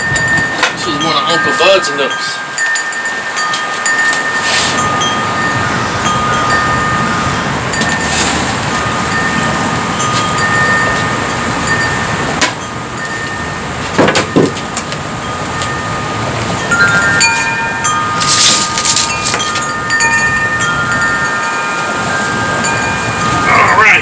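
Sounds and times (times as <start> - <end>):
high ringing tones: 0.0 - 24.0.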